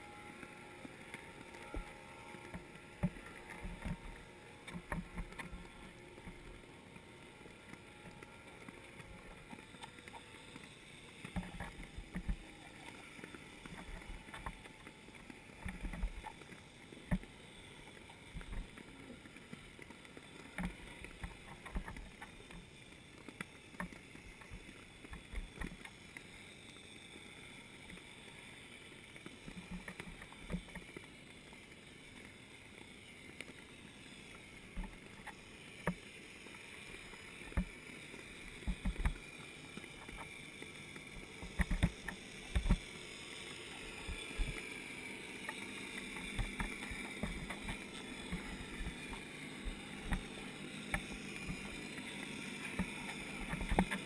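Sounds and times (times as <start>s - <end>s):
muffled underwater hiss: 0.0s - 54.0s.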